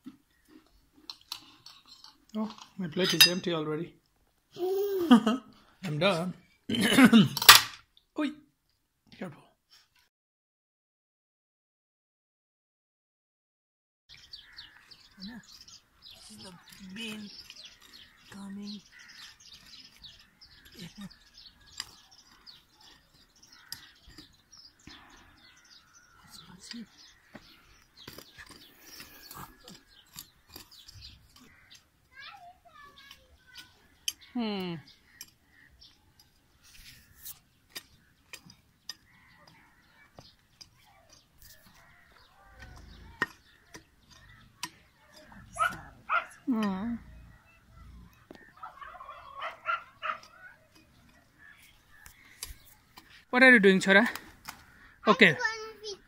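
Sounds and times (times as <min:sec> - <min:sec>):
small birds chirping: 0:00.0 - 0:07.2, 0:14.1 - 0:56.0.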